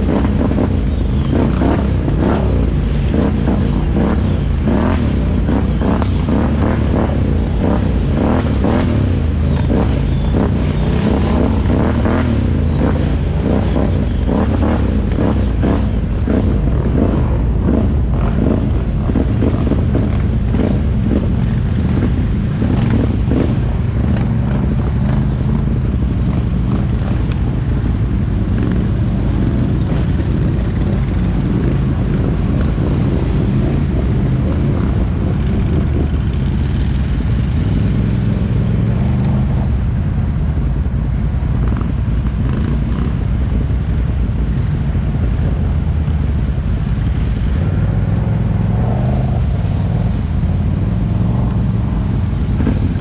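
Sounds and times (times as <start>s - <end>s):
atv engine revving: 0.0s - 40.8s, 44.6s - 53.0s.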